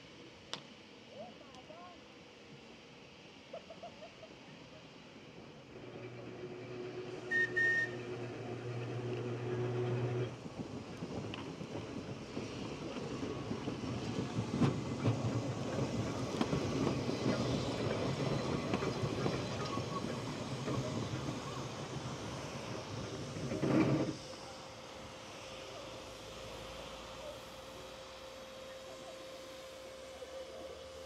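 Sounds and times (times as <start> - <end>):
tram wheels rumbling on rails: 5.2 - 31.0.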